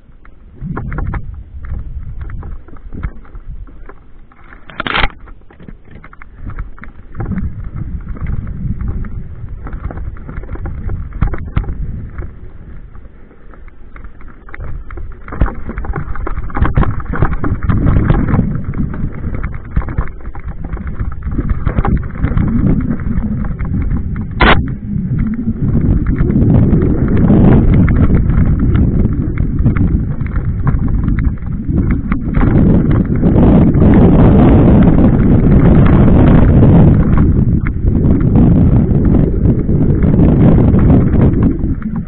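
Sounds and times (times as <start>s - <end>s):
wind rushing over microphone: 0.0s - 42.0s
bike tyres clattering over stones: 0.6s - 42.0s.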